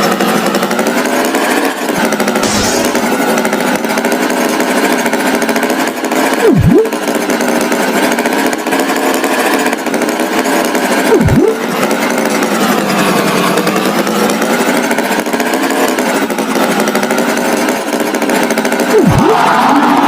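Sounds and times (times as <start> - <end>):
cartoon tractor engine drone: 0.0 - 20.0.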